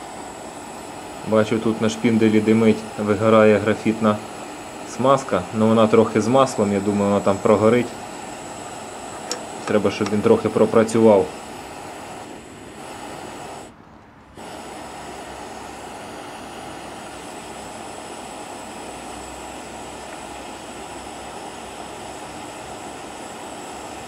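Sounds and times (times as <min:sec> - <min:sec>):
stove burner rushing: 0:00.0 - 0:24.0.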